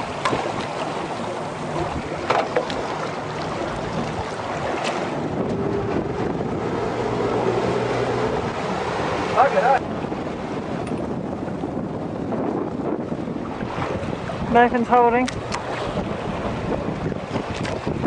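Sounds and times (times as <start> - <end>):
boat engine humming: 0.0 - 18.0
wind across microphone: 0.0 - 18.0.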